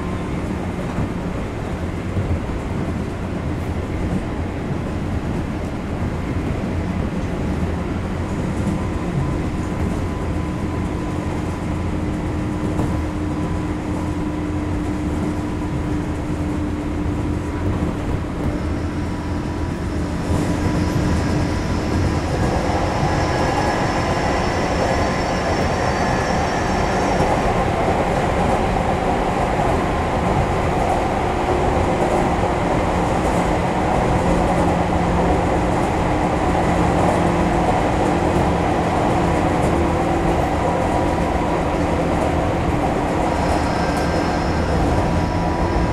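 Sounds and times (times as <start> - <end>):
train wheel and rail rumble: 0.0 - 45.9.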